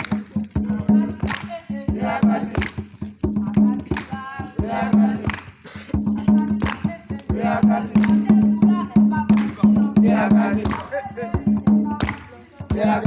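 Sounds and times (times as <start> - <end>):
group of voices singing: 0.0 - 13.0
rhythmic drumming: 0.0 - 13.0.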